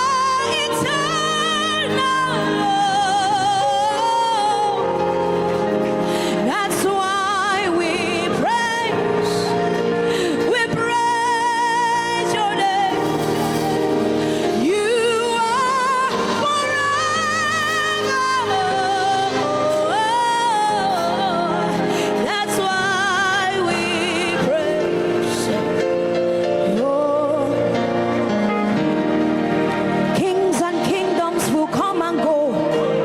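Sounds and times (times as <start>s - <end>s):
person singing with vibrato: 0.0s - 33.0s
sustained backing chords: 0.0s - 33.0s.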